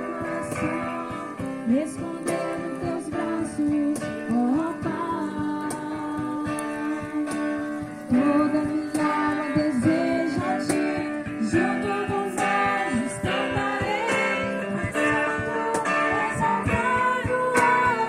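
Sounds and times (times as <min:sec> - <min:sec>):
strummed acoustic guitar: 0:00.0 - 0:18.0
voices singing: 0:00.0 - 0:18.0.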